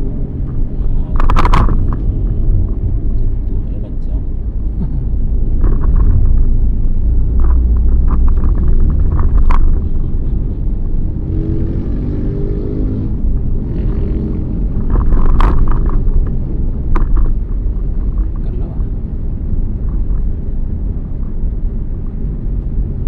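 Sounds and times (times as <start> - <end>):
low hum: 0.0 - 22.9
car engine and road noise: 0.0 - 23.0.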